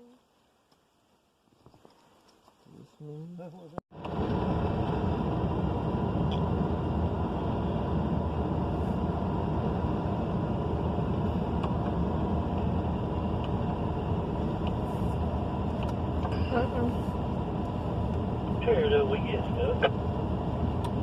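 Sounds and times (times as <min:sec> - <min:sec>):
vehicle engine and tyre rumble: 0:00.5 - 0:21.0.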